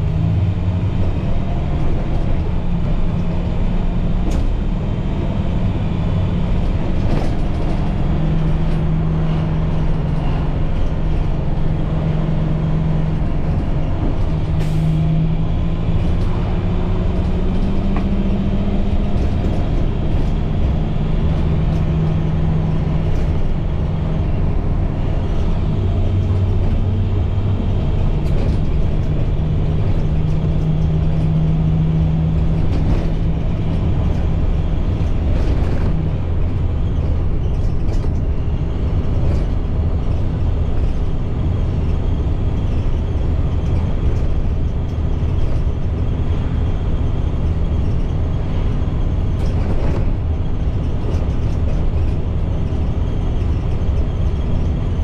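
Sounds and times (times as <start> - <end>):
diesel bus engine hum: 0.0 - 55.0
road rumble: 0.0 - 55.0.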